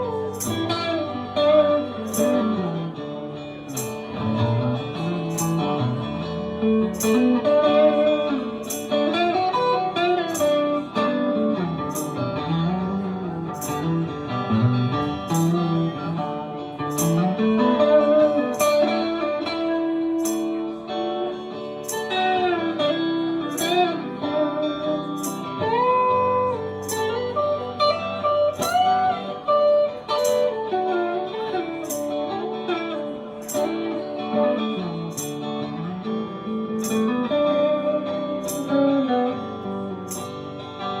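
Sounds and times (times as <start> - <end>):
lead guitar bending notes: 0.0 - 41.0.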